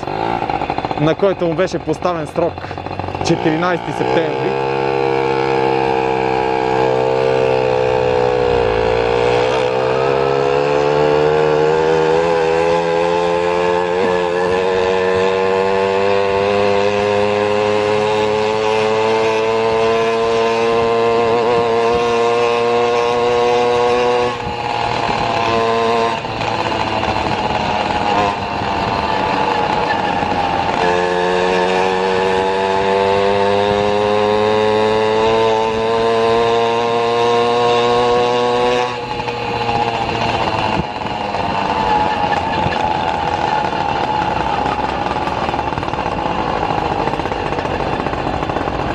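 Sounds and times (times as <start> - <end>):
vehicle motor accelerating: 0.0 - 48.9.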